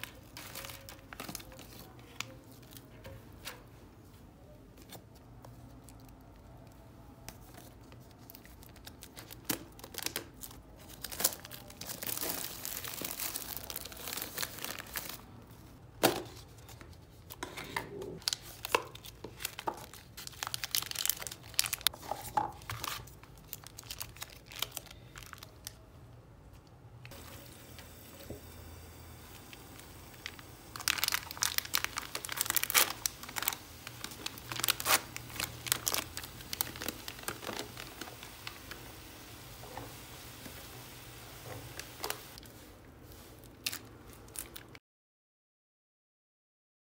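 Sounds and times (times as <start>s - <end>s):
plastic packaging crinkling and tearing: 0.0s - 2.9s, 7.3s - 25.9s, 27.0s - 44.8s.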